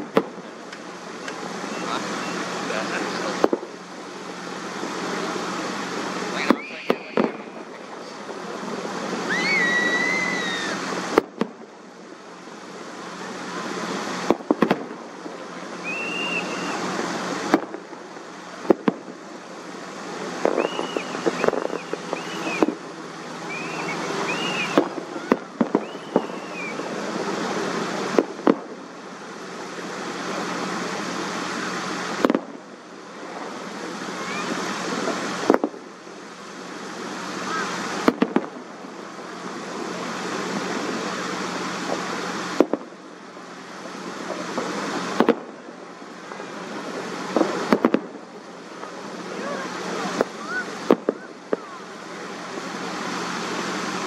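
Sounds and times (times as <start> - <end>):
distant fireworks bangs: 0.0 - 54.0.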